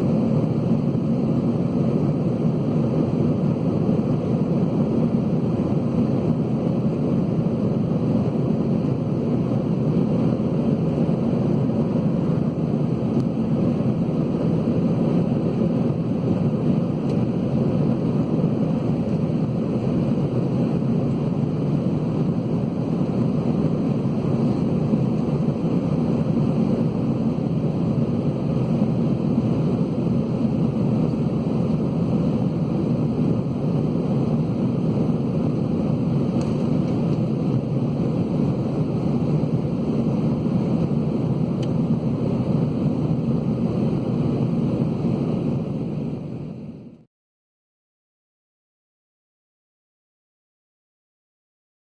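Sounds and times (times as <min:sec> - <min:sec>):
airliner cabin rumble: 0:00.0 - 0:47.1.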